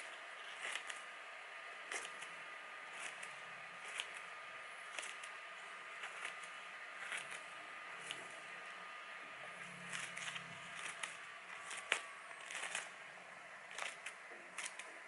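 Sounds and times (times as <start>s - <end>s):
scissors snipping paper: 0.0s - 1.1s, 1.8s - 8.4s, 9.6s - 13.0s, 13.6s - 15.0s.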